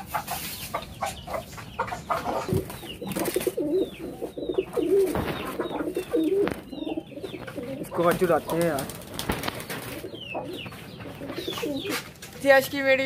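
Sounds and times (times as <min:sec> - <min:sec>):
chickens clucking: 0:00.0 - 0:13.0
small birds chirping: 0:00.0 - 0:13.0
pigeons cooing: 0:01.3 - 0:12.2.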